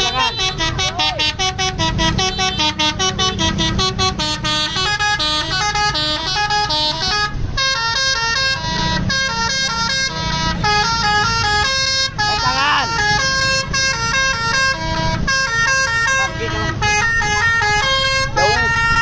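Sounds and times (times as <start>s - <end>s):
bus engine running: 0.0s - 19.0s
musical bus horn tune: 0.0s - 19.0s.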